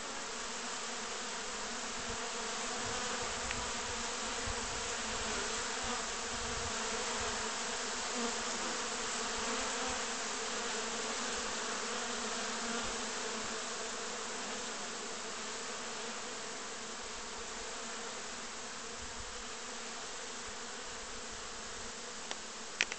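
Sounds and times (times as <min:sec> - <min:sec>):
bees buzzing: 0:00.0 - 0:22.9.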